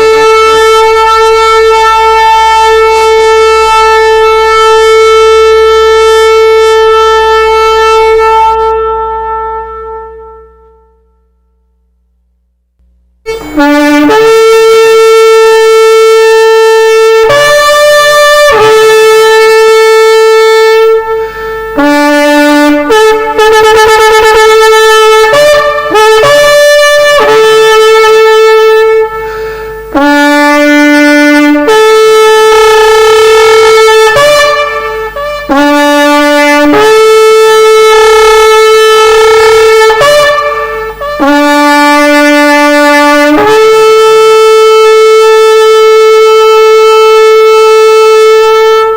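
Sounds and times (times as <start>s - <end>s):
shofar blasts: 0.0s - 11.7s, 13.3s - 48.9s.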